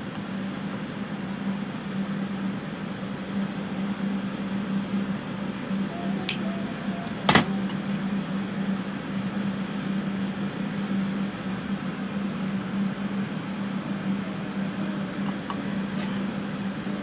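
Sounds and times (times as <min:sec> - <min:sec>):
extraction fans humming: 0:00.0 - 0:17.0.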